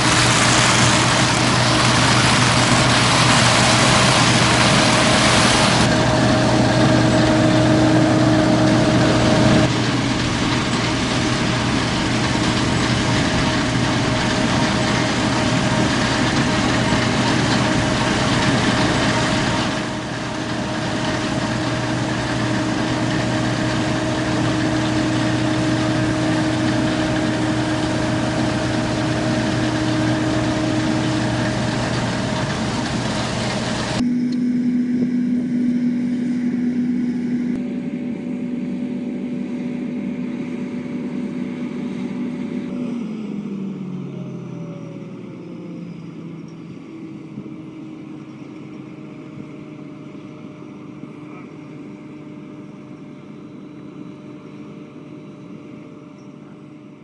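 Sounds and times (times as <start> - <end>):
combine harvester drone: 0.0 - 57.0
machinery winding down hum: 0.0 - 57.0.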